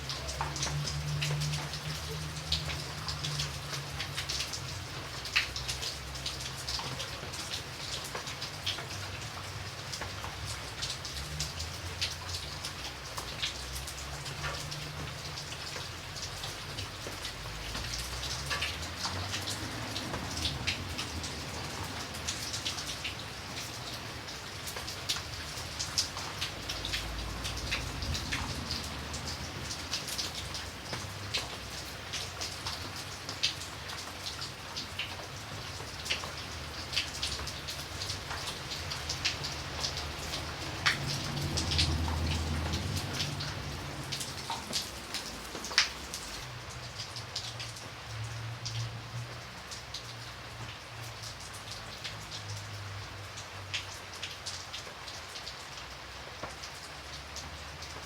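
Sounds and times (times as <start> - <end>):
raindrops ticking on surface: 0.0 - 58.0.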